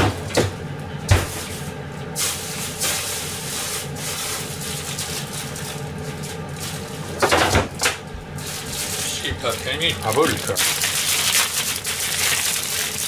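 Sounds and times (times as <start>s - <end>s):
plastic bag rustling: 1.4s - 7.2s, 8.4s - 13.0s.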